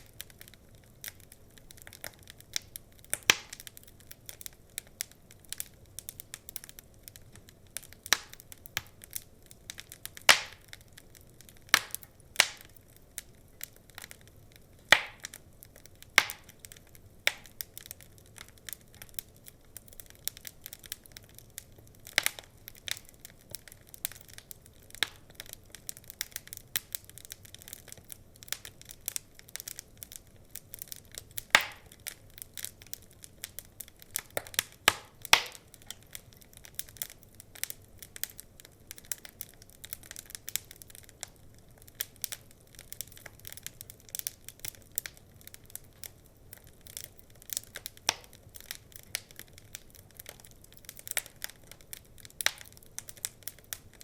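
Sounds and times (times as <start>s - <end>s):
burning logs popping: 0.0s - 54.0s
wood fire crackling: 0.0s - 54.0s.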